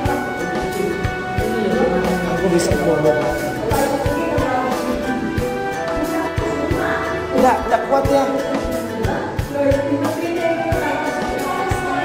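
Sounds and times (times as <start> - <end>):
music with steady beat: 0.0 - 12.0
person singing: 0.0 - 12.0.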